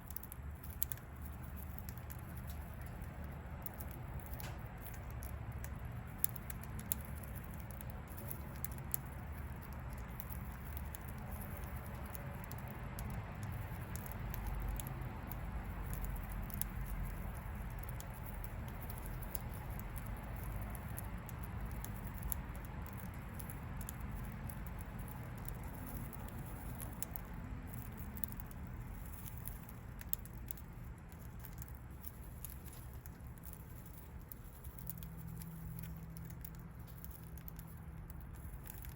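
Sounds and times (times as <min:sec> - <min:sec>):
beak pecking at seed: 0:00.0 - 0:38.9.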